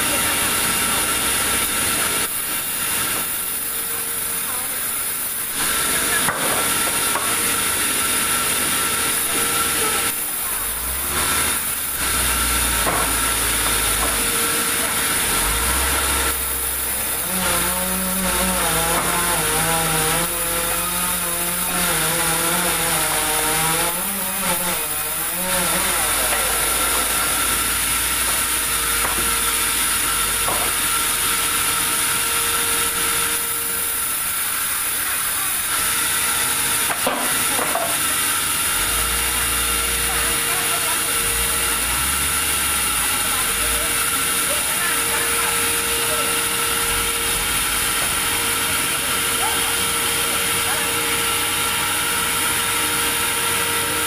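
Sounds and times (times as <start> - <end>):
sawmill saw cutting log: 0.0 - 54.0.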